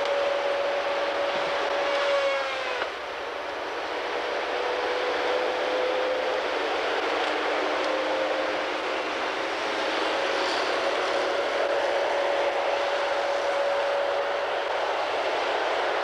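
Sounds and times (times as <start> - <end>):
heavy machine engine and hydraulics: 0.0 - 16.0
high whine: 0.0 - 16.0.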